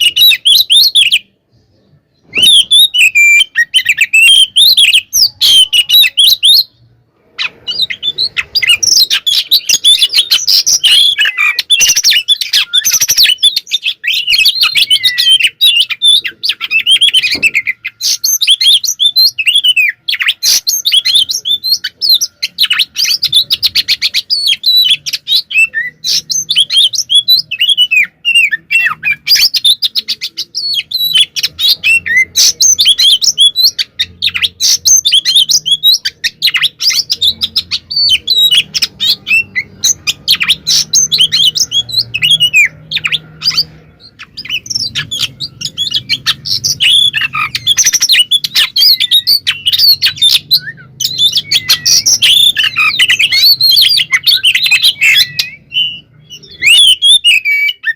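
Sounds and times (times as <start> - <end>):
bird singing whistles and chirps: 0.0 - 6.8, 7.4 - 57.9.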